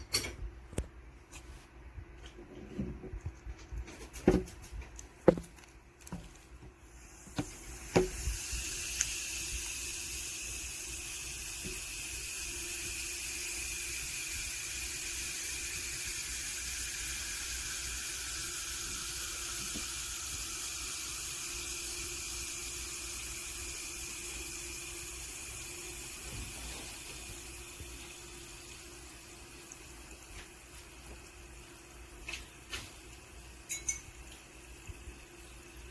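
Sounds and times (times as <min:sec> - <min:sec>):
fizzing hiss of bubbles: 0:06.8 - 0:35.9.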